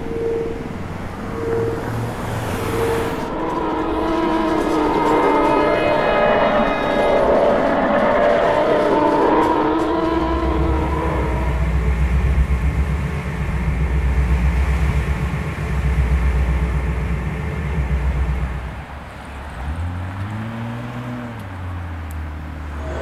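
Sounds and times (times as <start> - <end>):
deep hum rising and falling: 0.0 - 19.0, 19.6 - 23.0
pulsing engine rumble: 0.0 - 23.0.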